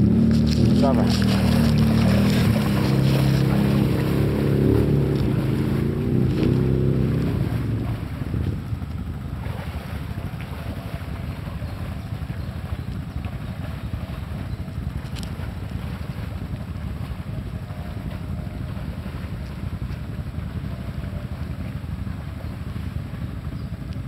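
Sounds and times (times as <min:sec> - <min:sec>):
quad engine running under load: 0:00.0 - 0:24.0
water and wind rushing: 0:00.0 - 0:24.0.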